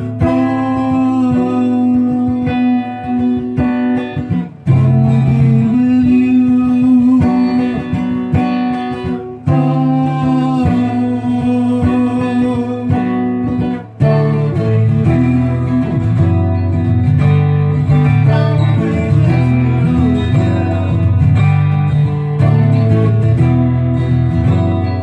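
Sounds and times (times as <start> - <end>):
guitar playing chords: 0.0 - 25.0.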